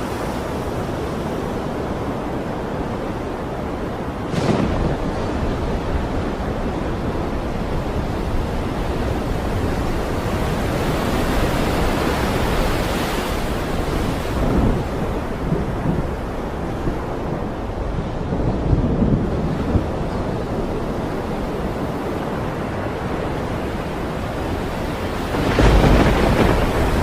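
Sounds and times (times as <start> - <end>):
waves breaking: 0.0 - 27.0
wind blowing: 0.0 - 27.0.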